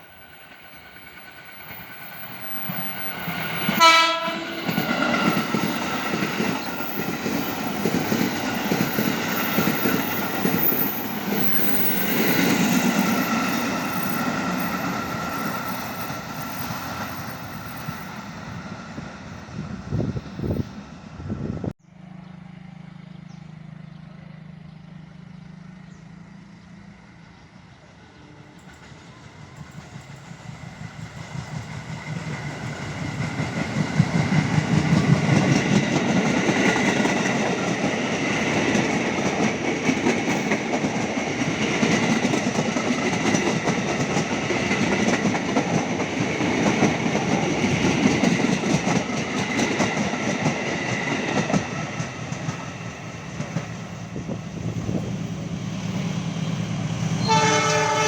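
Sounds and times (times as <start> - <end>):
train passing at speed: 0.0 - 58.0.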